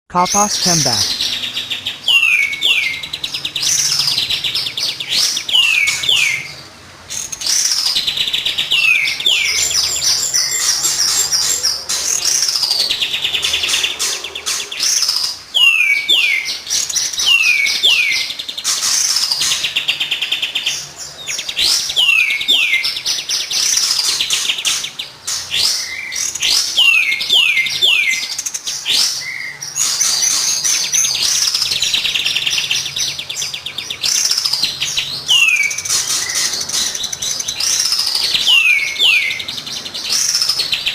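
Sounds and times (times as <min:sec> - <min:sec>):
bird whistles and trills: 0:01.1 - 0:06.6, 0:07.2 - 0:40.9.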